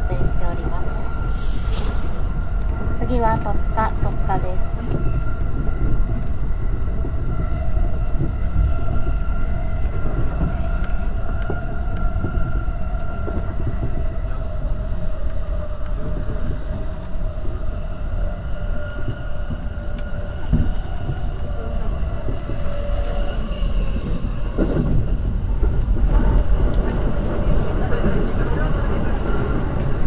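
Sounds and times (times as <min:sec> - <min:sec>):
train running gear whine: 0:00.0 - 0:30.0
train wheels rumbling on rail: 0:00.0 - 0:30.0.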